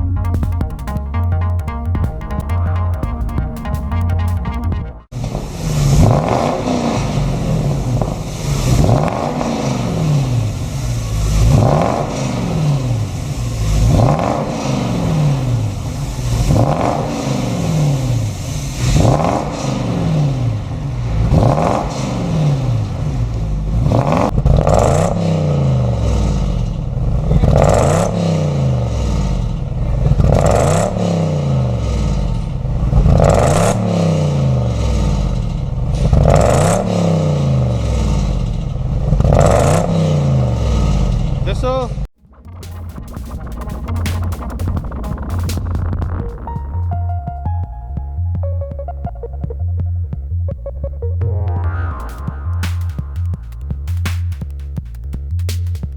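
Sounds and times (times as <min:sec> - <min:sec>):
car engine revving: 0:00.0 - 0:47.2.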